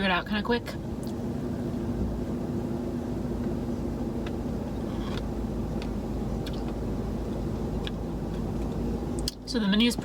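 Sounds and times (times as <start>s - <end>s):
low hum in car cabin: 0.0s - 10.0s.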